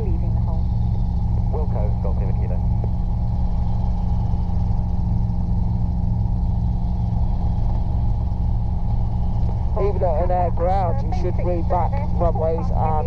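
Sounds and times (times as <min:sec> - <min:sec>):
helicopter cabin drone: 0:00.0 - 0:13.0.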